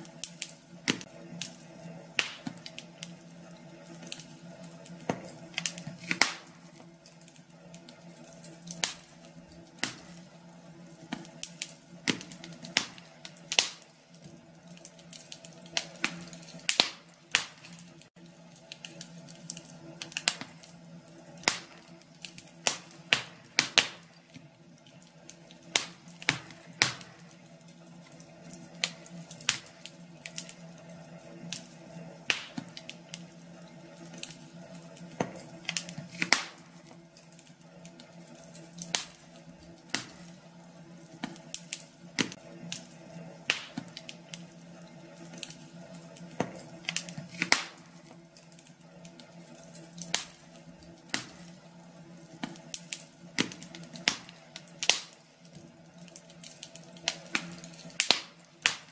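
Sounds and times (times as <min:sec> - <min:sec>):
faint steady hum: 0:00.0 - 0:58.9
fireplace fire crackling: 0:00.0 - 0:58.9.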